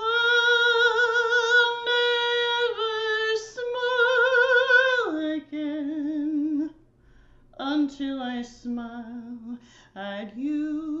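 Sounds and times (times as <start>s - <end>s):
woman singing unaccompanied: 0.0s - 6.8s, 7.6s - 11.0s.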